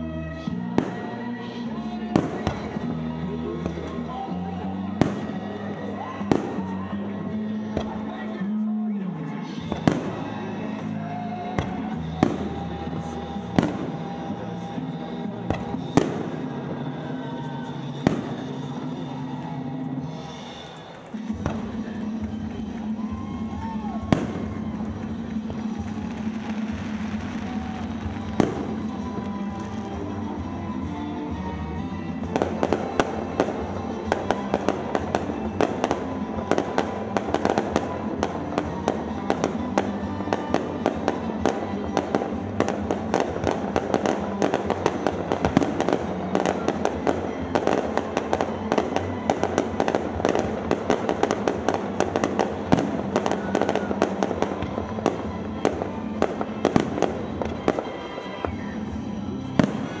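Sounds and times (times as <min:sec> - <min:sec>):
background music: 0:00.0 - 1:00.0
fireworks bangs and crackling: 0:00.0 - 1:00.0.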